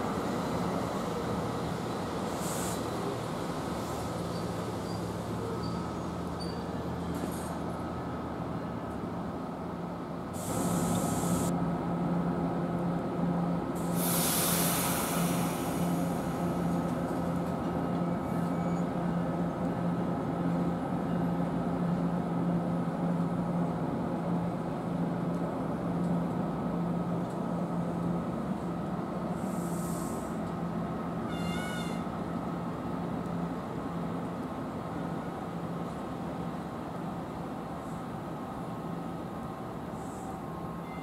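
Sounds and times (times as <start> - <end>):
train electric hum: 0.0 - 41.0.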